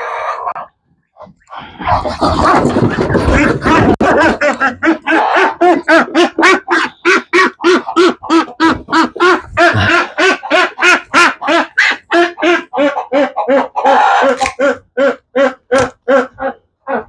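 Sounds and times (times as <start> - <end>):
duck quacking loudly: 3.2 - 17.0.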